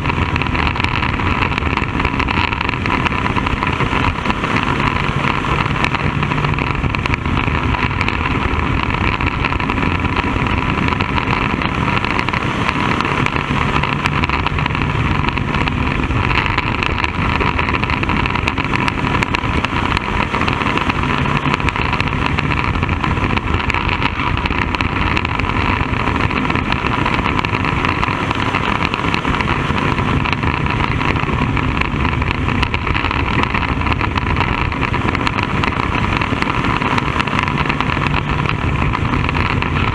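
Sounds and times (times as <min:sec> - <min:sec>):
race car engine running hard: 0:00.0 - 0:39.9
wind rushing over car: 0:00.0 - 0:39.9.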